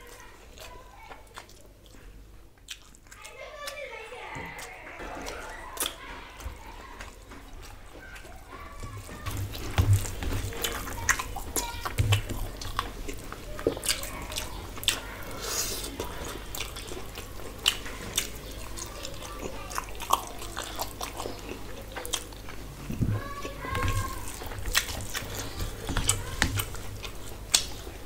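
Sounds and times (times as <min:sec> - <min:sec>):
mouth smacking and chewing: 0:00.0 - 0:03.8, 0:04.6 - 0:28.0
food mixed by hand squelching: 0:00.0 - 0:28.0.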